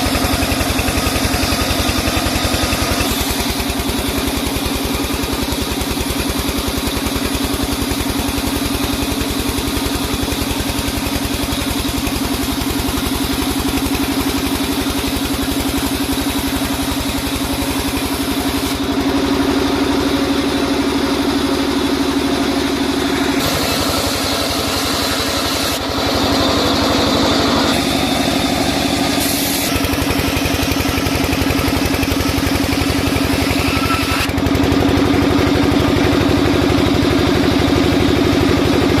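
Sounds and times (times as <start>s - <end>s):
sawmill machinery humming: 0.0s - 39.0s.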